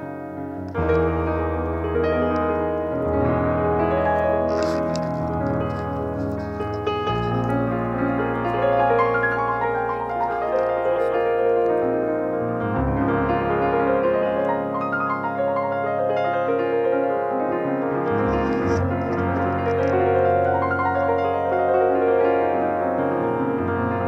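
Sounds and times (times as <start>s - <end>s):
piano background music: 0.0s - 24.0s.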